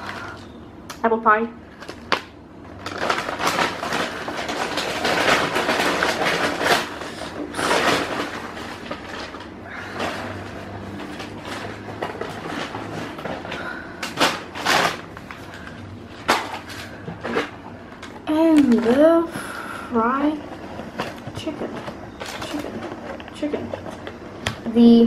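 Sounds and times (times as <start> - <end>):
paper bag rustling and crackling: 1.6 - 25.0.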